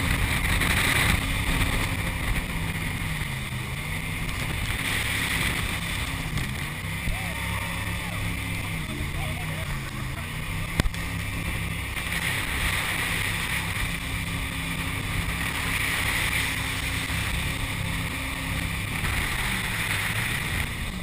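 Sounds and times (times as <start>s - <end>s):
boat engine drone: 0.0s - 21.0s
water and wind rushing: 0.0s - 21.0s.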